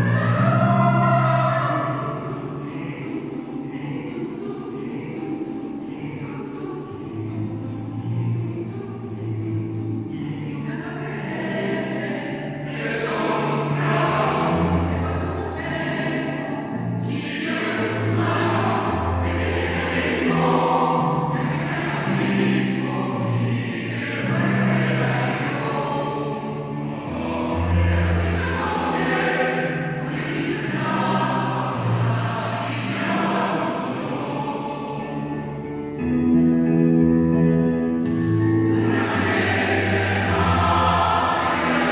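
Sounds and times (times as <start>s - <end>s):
choir singing: 0.0s - 36.9s, 38.0s - 41.9s.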